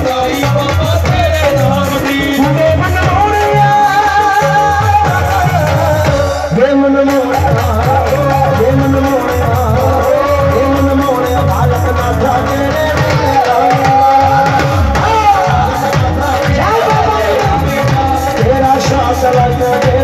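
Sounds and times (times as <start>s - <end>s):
drums with steady beat: 0.0s - 20.0s
man singing through pa system: 0.0s - 20.0s.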